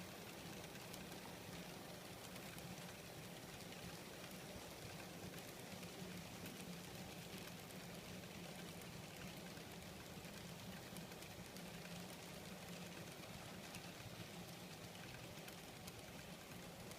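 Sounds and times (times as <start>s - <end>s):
wheels ticking on rails: 0.0s - 16.9s.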